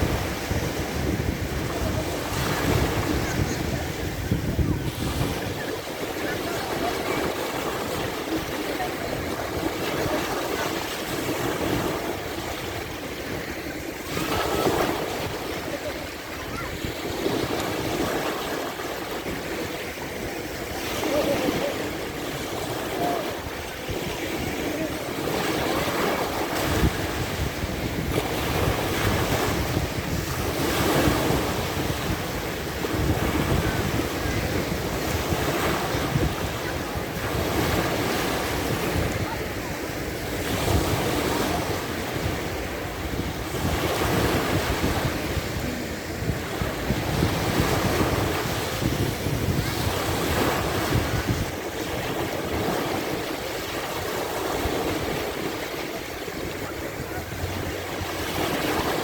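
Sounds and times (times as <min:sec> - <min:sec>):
sea waves washing onto beach: 0:00.0 - 0:59.0
wind buffeting microphone: 0:00.0 - 0:59.0.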